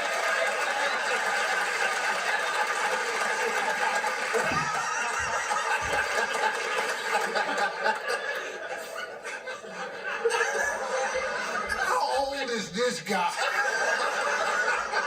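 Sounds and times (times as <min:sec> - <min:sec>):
audience laughing: 0:00.0 - 0:15.0.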